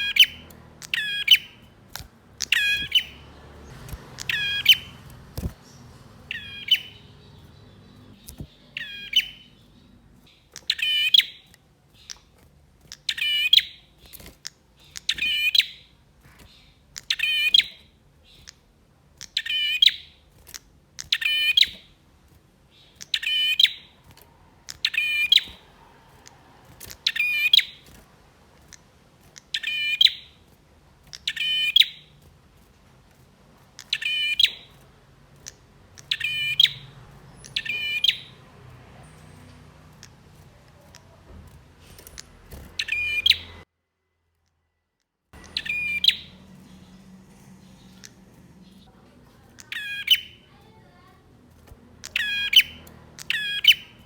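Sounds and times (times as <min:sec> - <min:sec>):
bird calling sharp high phrases: 0:00.0 - 0:22.0, 0:22.7 - 0:32.3, 0:33.6 - 0:43.7, 0:45.4 - 0:54.0.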